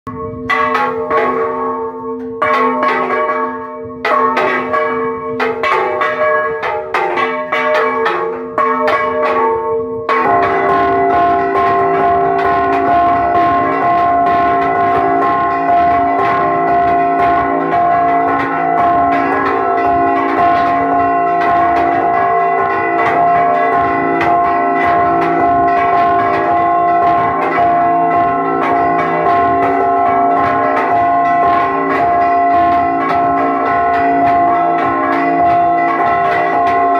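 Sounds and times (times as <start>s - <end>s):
church bells ringing: 0.1s - 36.9s
large swung bell: 0.1s - 36.9s.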